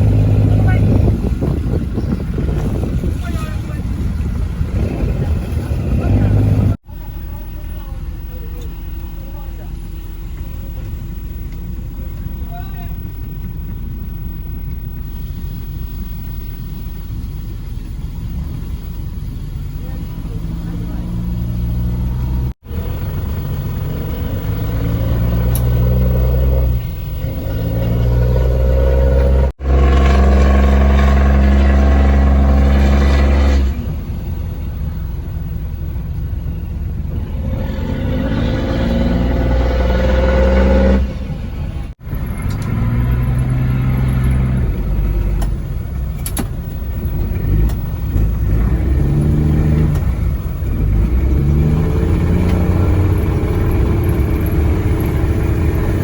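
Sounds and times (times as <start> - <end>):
large engine revving: 0.0 - 56.0.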